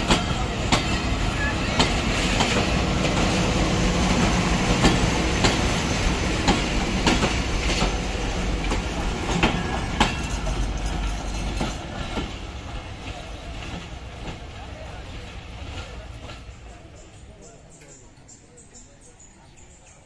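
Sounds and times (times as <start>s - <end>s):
wheels clacking over rail joints: 0.0s - 18.0s
train coaches rumbling past: 0.0s - 20.0s.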